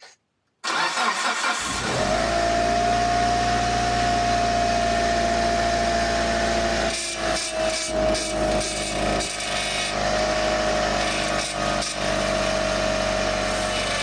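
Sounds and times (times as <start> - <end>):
car engine cranking and idling: 0.6 - 14.0
power steering pump whine: 0.7 - 14.0.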